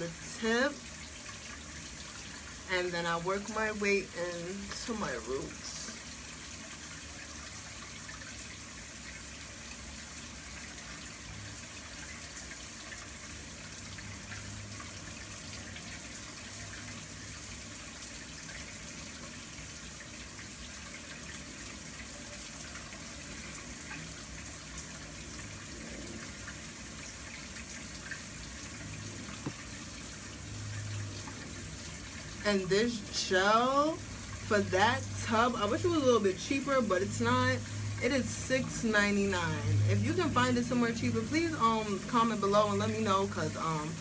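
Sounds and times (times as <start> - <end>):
shower water running: 0.0 - 44.0.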